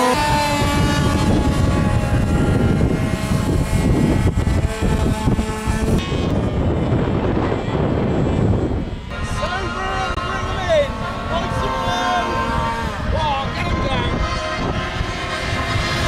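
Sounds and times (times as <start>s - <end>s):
model aircraft engines running: 0.0s - 16.0s.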